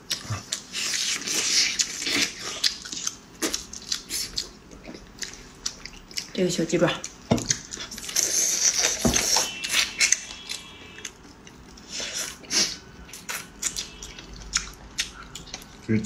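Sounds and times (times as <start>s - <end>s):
wet chewing and crunching: 0.0s - 15.9s.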